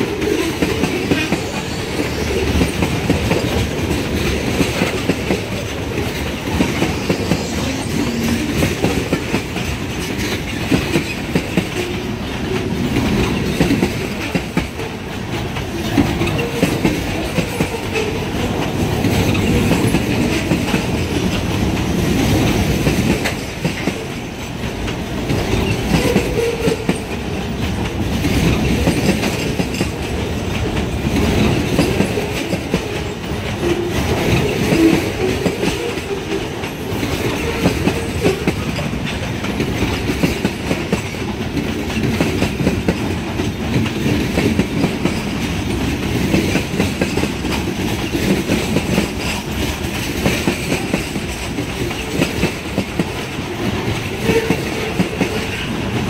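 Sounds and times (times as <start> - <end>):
train wheels clicking over rail joints: 0.0 - 56.0.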